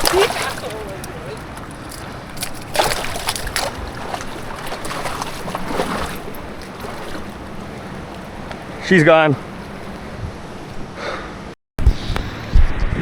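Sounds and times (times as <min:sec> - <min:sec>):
water splashing: 0:00.0 - 0:10.9
wind on microphone: 0:00.0 - 0:13.0.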